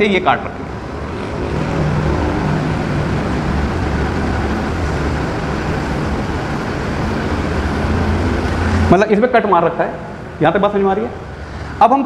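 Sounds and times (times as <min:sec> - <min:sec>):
constant hum: 0:00.0 - 0:12.0
low rumbling background noise: 0:00.0 - 0:12.0.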